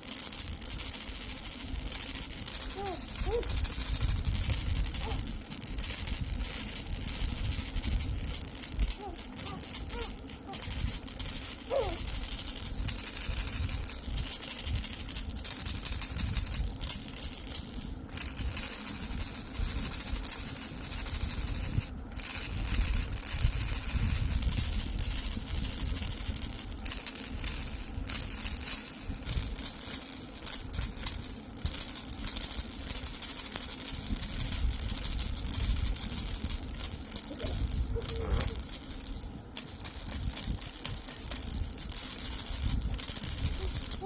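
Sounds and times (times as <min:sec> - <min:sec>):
baby rattle shaking: 0:00.0 - 0:44.0.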